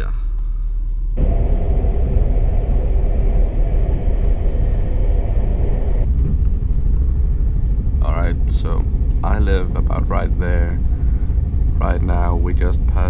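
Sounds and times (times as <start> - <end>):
train rumble from inside carriage: 1.2 - 13.0.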